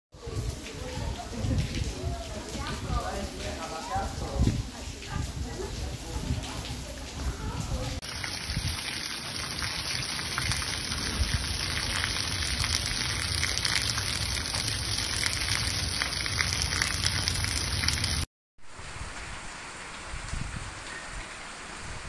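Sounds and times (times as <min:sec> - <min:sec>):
rain on cobblestone street: 0:00.1 - 0:22.0.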